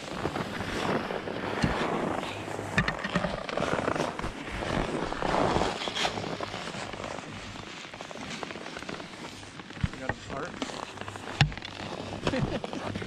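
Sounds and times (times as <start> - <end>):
skis scraping over hard snow: 0.0 - 13.0.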